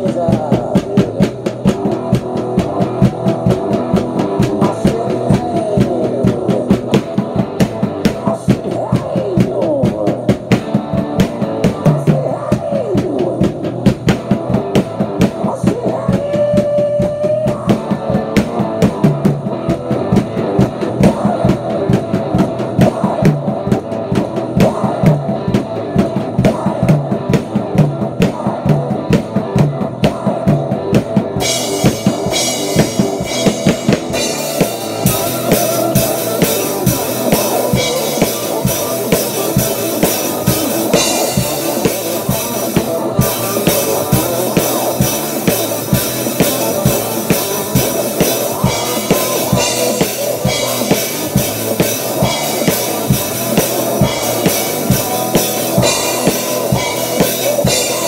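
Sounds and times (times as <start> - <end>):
drum kit rock beat: 0.0 - 58.0.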